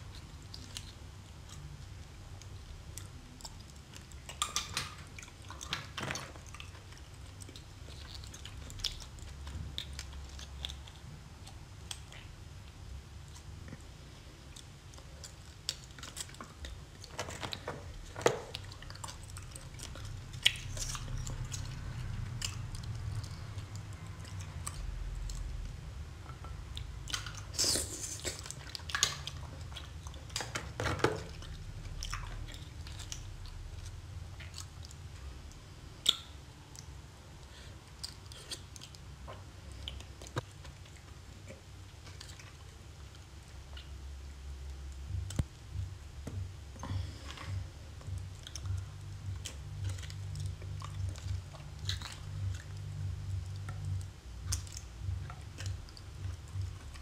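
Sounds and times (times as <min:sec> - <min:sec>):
chewing and wet mouth sounds: 0:00.0 - 0:57.0.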